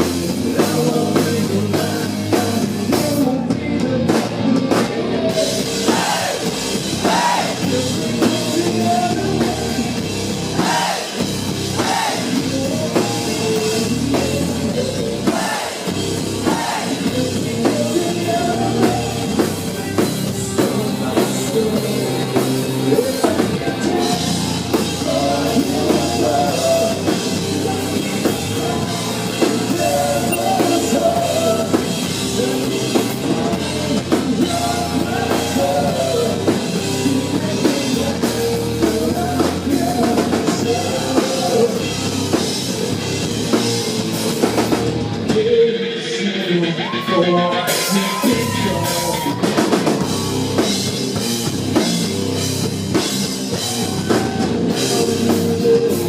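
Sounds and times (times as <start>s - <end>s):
pounding drum kit: 0.0s - 45.7s, 46.6s - 56.0s
rock band playing live: 0.0s - 56.0s.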